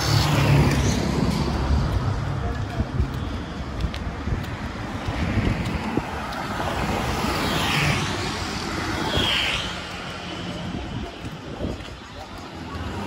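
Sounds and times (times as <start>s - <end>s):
passing vehicles: 0.0s - 13.0s
wind on microphone: 0.0s - 13.0s.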